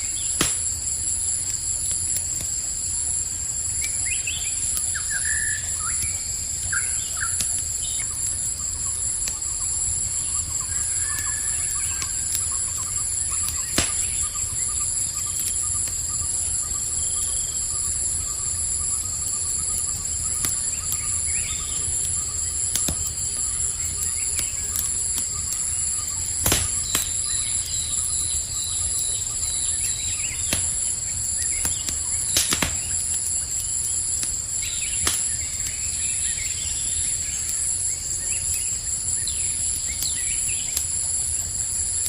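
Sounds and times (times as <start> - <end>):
campfire crackling: 0.0 - 42.0
crickets trilling: 0.0 - 42.0.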